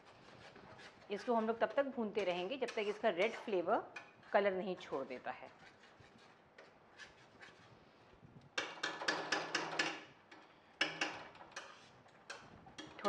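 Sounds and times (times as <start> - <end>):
metal spatula scraping steel pan: 0.0 - 7.8, 8.6 - 13.0.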